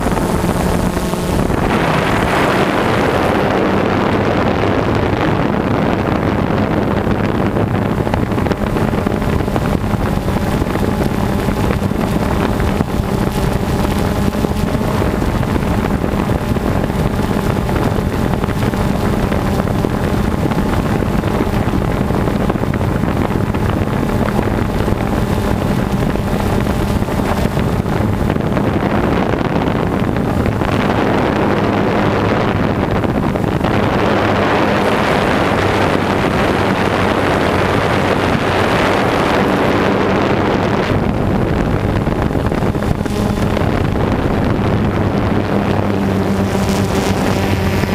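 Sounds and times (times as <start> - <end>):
jet ski engine running: 0.0 - 47.9
wind buffeting microphone: 0.0 - 47.9.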